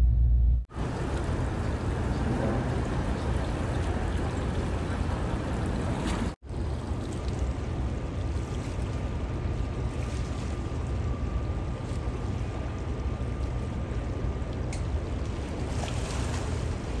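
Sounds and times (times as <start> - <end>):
low rumble: 0.0 - 15.6.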